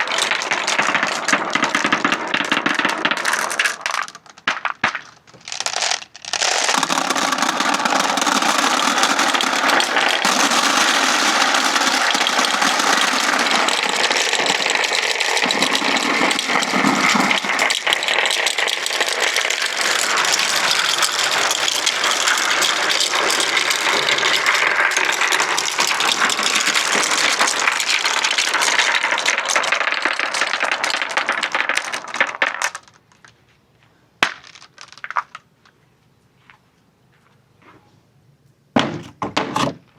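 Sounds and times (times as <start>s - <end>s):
marbles rattling down wooden ramps: 0.0s - 33.4s, 34.2s - 35.5s.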